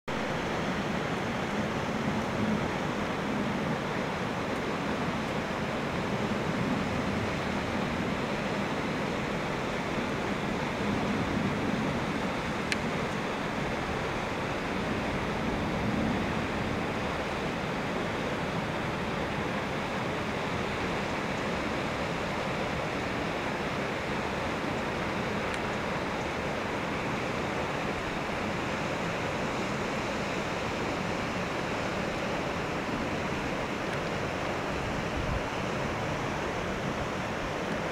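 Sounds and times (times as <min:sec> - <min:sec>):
water rushing from dam outlet: 0:00.1 - 0:37.9.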